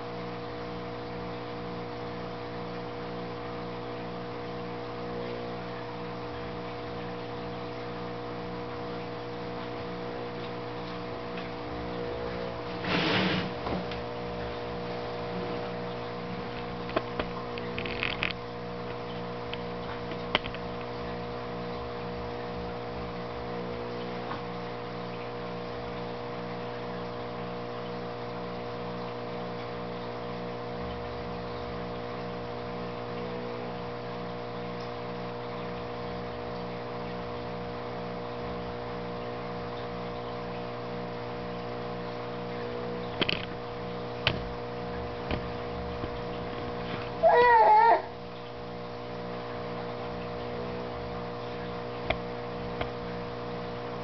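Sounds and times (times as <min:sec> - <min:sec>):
aquarium pump humming: 0:00.0 - 0:54.0.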